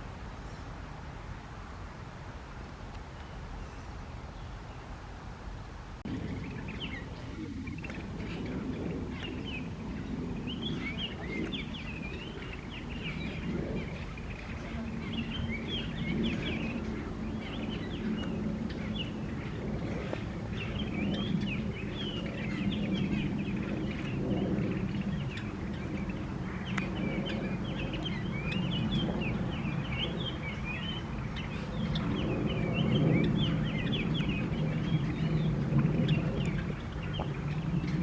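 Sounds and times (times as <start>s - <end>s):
low background rumble: 0.0s - 38.0s
small birds twittering: 1.7s - 5.0s, 6.1s - 38.0s.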